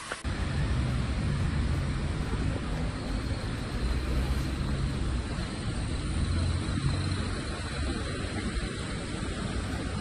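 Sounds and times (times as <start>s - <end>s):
traffic: 0.0s - 10.0s
running floodwater: 0.1s - 10.0s.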